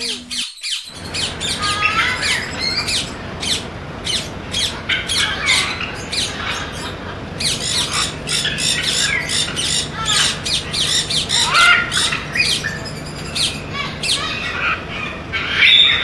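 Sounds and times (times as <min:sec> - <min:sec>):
parrots squawking: 0:00.0 - 0:16.0.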